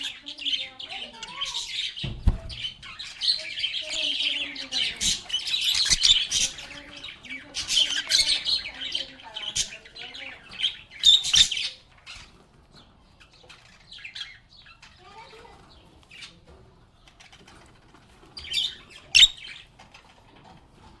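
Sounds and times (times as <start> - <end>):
lovebirds chirping: 0.0 - 20.4.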